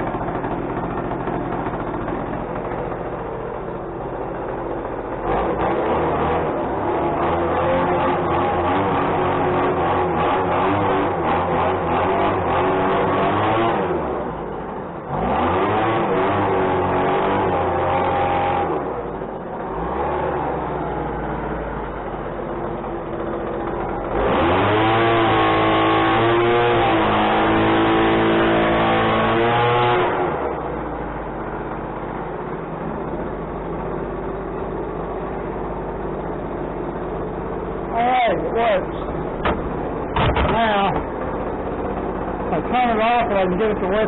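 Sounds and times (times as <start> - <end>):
engine revving and idling: 0.0 - 44.0.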